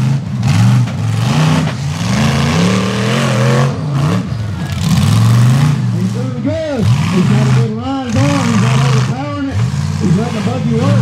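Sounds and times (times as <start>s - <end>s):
buggy engine revving hard: 0.0s - 11.0s.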